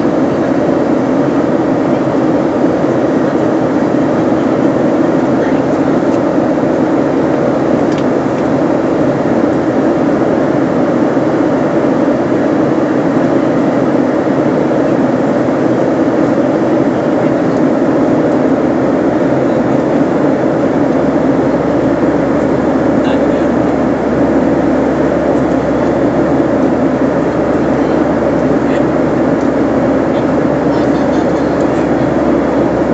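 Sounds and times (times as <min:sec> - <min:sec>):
airliner engines droning in cabin: 0:00.0 - 0:32.9.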